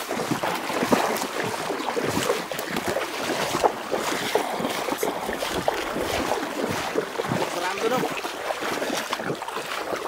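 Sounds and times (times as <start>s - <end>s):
water rushing: 0.0s - 10.0s
water splashing: 0.0s - 10.0s.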